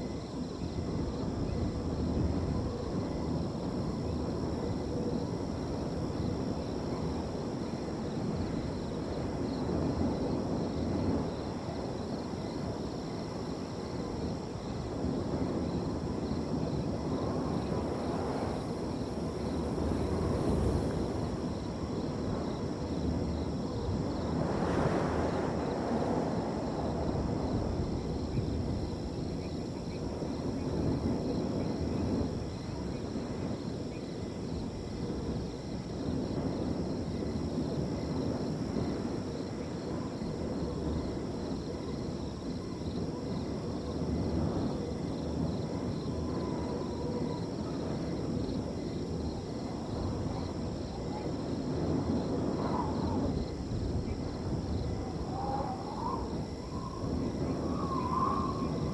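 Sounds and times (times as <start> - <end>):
crickets trilling: 0.0 - 58.9
wind gusting: 0.0 - 58.9.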